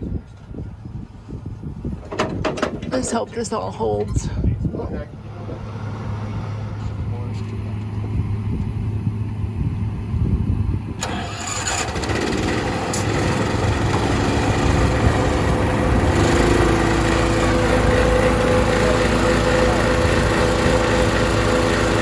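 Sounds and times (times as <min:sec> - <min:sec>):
diesel engine starting and running: 0:01.8 - 0:22.0.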